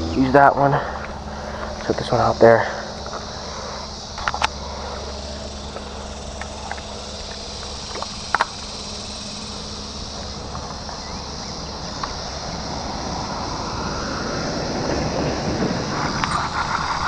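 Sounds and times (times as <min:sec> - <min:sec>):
insects buzzing high-pitched: 0:00.0 - 0:17.0
low steady hum: 0:00.0 - 0:17.0.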